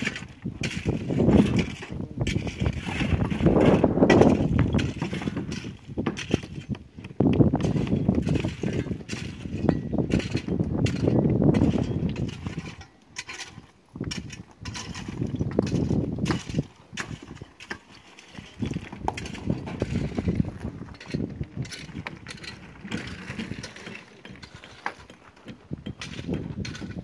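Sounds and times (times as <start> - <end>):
stones clacking into wire baskets: 0.0 - 27.0.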